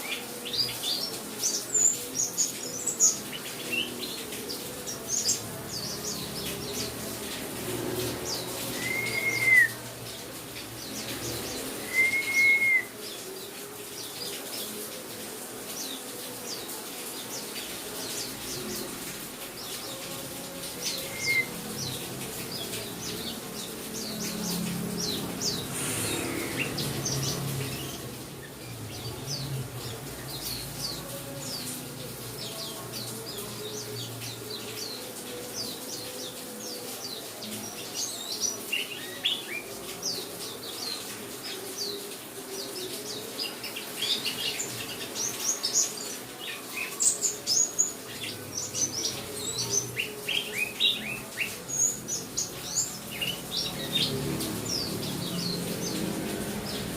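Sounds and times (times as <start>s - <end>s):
small songbirds chirping: 0.0s - 56.9s.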